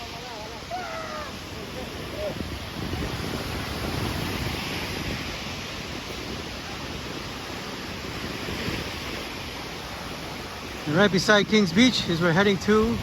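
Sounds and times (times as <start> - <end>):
surf washing onto beach: 0.0 - 13.0
wind rumble on microphone: 0.0 - 13.0.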